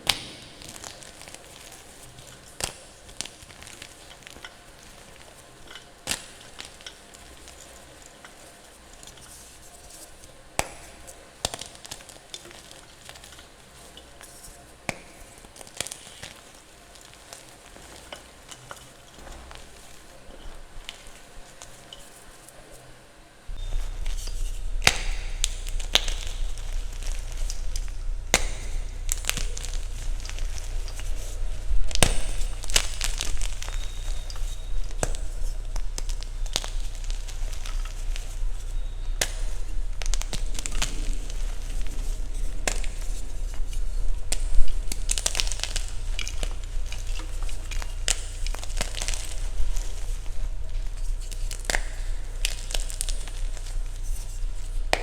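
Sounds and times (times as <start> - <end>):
chalk crunching and snapping: 0.0 - 22.9, 23.5 - 55.0
steady low hum: 0.0 - 55.0.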